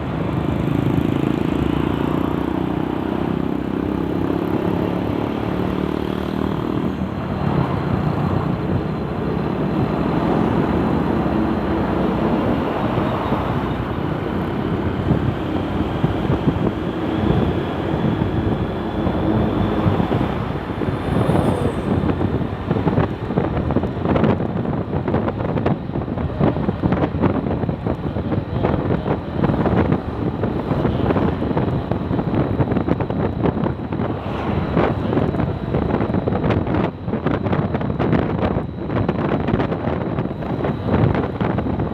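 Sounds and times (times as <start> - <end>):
road traffic passing: 0.0 - 41.9
wind buffeting microphone: 0.0 - 41.9.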